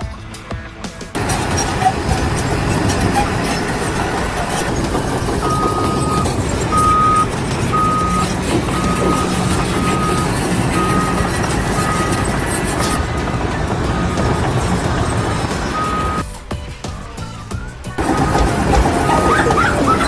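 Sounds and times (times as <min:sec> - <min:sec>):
heavy vehicle engine running: 0:00.9 - 0:20.0
reversing alarm beeping: 0:01.2 - 0:16.3, 0:18.0 - 0:20.0.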